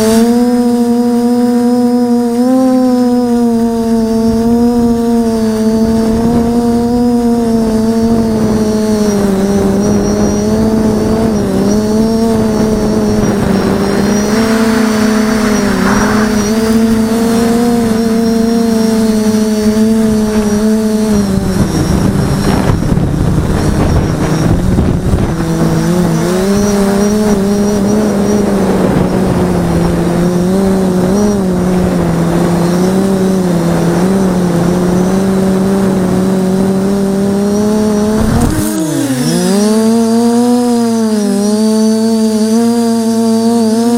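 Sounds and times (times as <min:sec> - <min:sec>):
quadcopter motors buzzing: 0:00.0 - 0:43.9.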